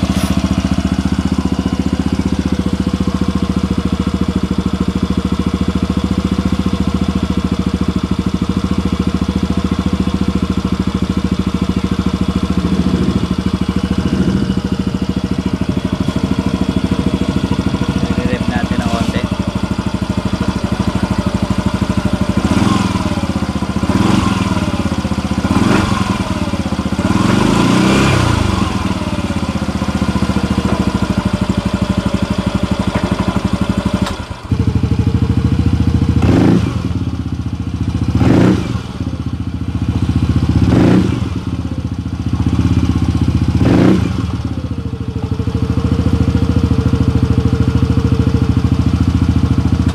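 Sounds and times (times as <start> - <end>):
scooter engine revving: 0.0 - 49.9.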